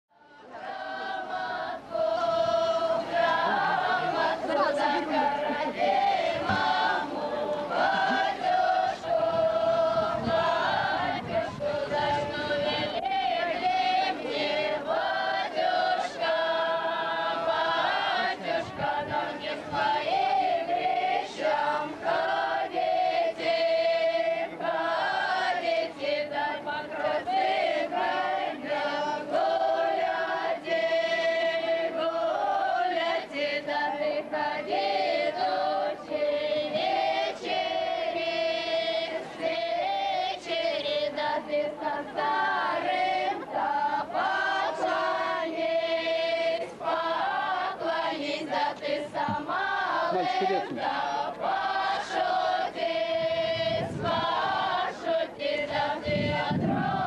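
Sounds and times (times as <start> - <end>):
group singing a folk song: 0.1 - 57.0.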